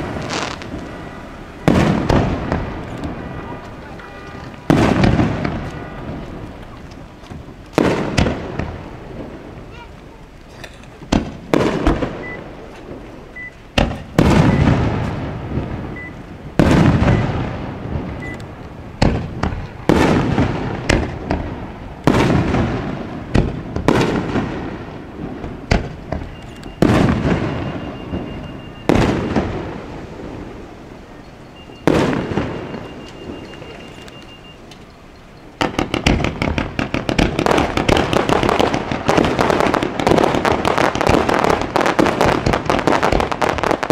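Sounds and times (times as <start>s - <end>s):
fireworks bursting with echo: 0.0s - 43.9s.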